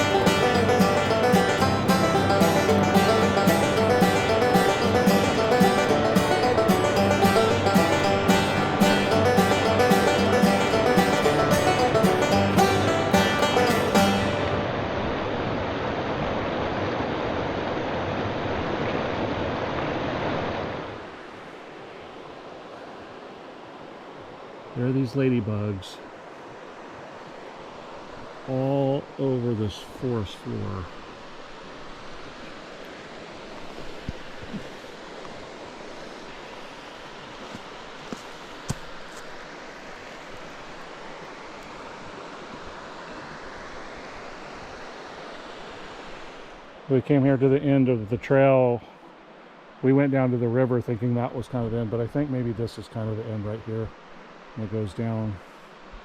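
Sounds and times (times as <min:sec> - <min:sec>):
river water rushing: 0:00.0 - 0:52.1, 0:53.9 - 0:56.0.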